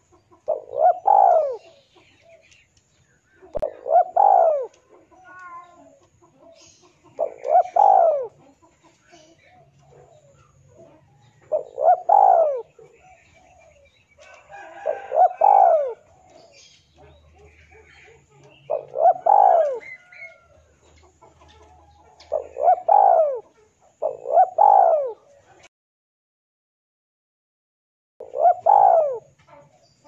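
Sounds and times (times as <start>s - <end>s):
dove cooing: 0.0s - 2.5s, 3.4s - 25.7s, 28.2s - 30.0s.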